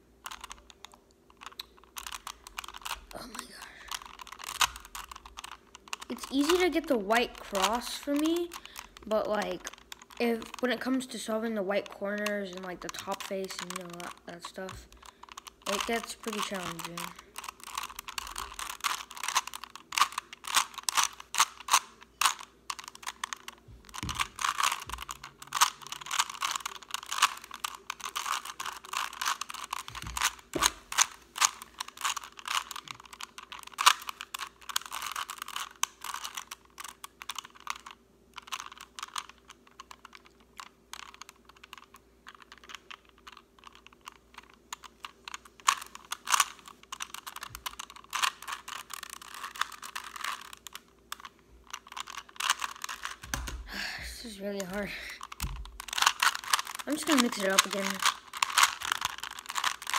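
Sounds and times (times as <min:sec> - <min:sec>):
puzzle cube clicking: 0:00.2 - 0:59.9.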